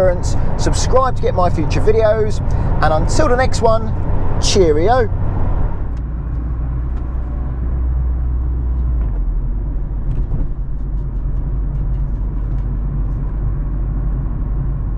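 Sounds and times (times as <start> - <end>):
car engine and tyre rumble: 0.0 - 14.9.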